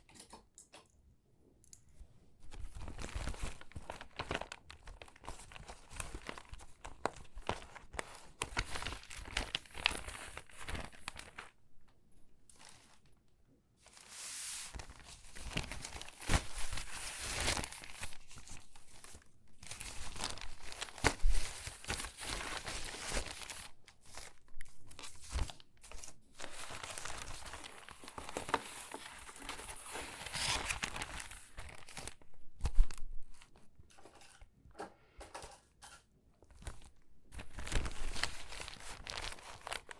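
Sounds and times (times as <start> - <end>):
magazine pages crinkling: 2.4 - 11.6, 12.5 - 13.1, 13.9 - 34.4, 36.4 - 39.9.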